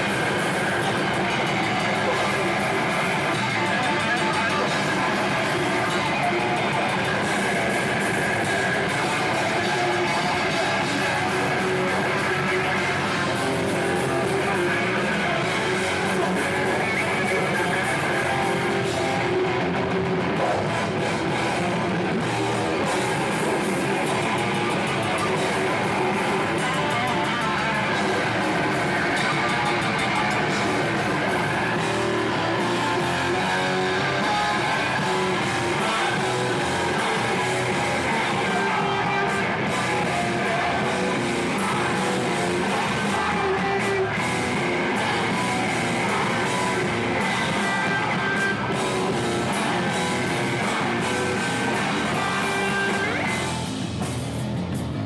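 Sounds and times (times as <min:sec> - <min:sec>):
distorted electric guitars: 0:00.0 - 0:55.0
hardcore band playing live: 0:00.0 - 0:55.0.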